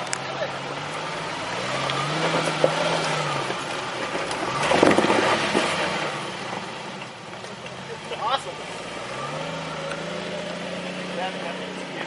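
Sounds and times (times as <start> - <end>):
engine revving: 0.0 - 12.0
vehicle grinding over rock: 0.0 - 12.0.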